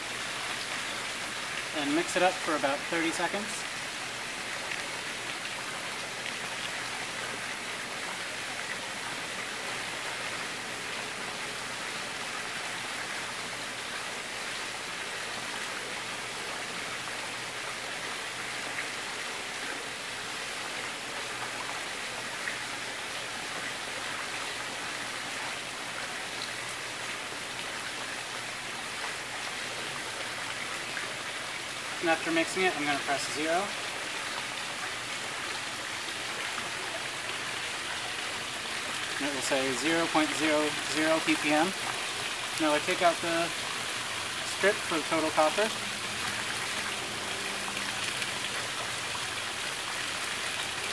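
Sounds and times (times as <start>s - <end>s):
steady hiss: 0.0s - 50.9s.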